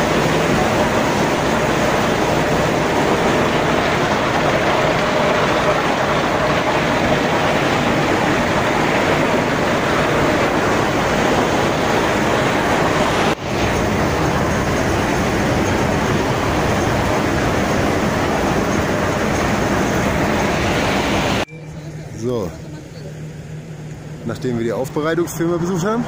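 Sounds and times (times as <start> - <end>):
processing machinery din: 0.0 - 26.0.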